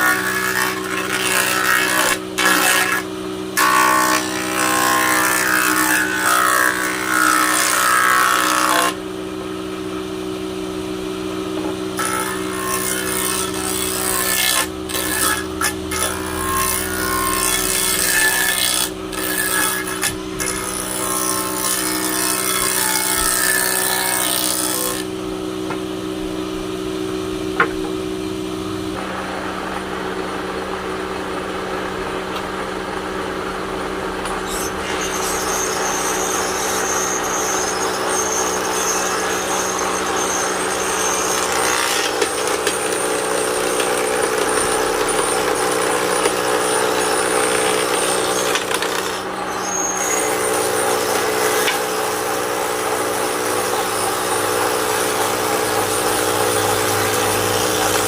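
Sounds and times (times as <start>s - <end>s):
power tool cutting wood: 0.0s - 58.0s.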